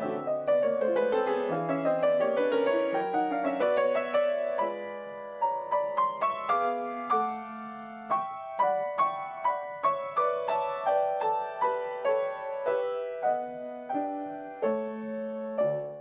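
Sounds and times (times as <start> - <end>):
gentle piano notes: 0.0 - 16.0.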